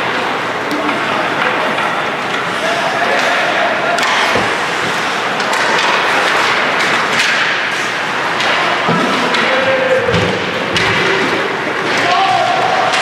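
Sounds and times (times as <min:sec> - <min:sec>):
hockey sticks and puck thuds: 0:00.0 - 0:13.0
steady rink noise: 0:00.0 - 0:13.0.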